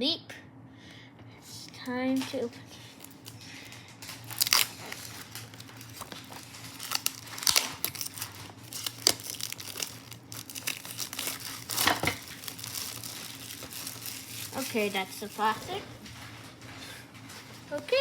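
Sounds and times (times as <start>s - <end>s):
plastic wrap crinkling: 2.2s - 18.0s.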